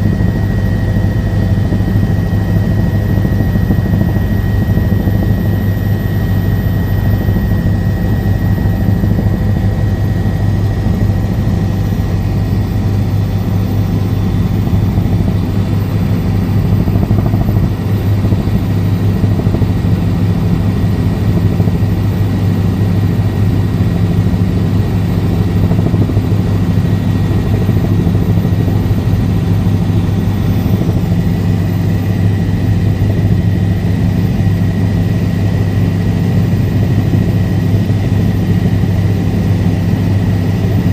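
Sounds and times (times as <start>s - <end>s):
helicopter rotor chop and engine: 0.0s - 40.9s
thin steady whine: 0.0s - 40.9s.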